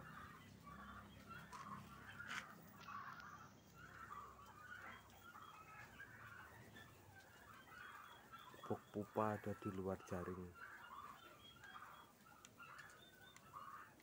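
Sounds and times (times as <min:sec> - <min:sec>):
faint fowl calls: 0:00.0 - 0:14.0.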